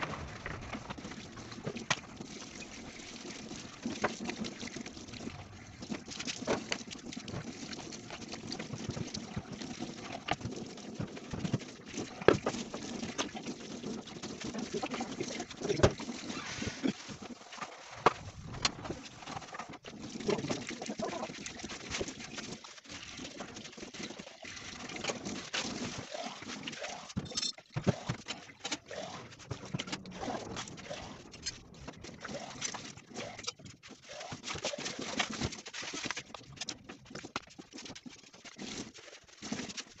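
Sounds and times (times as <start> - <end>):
water splashing: 0.0 - 40.0.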